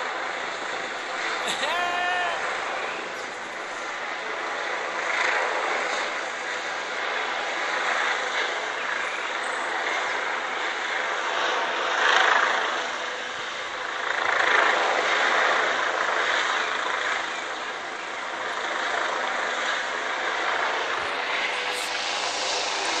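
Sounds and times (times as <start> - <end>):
helicopter rotor drone: 0.0 - 23.0.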